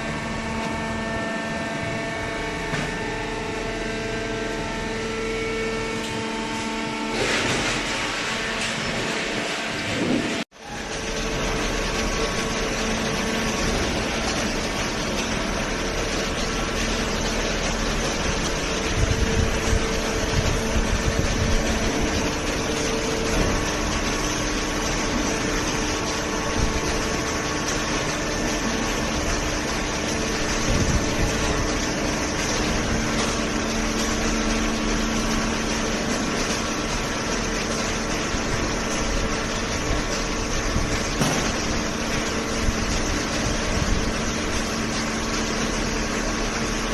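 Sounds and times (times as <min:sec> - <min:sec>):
hydraulic baler machine hum: 0:00.0 - 0:46.9.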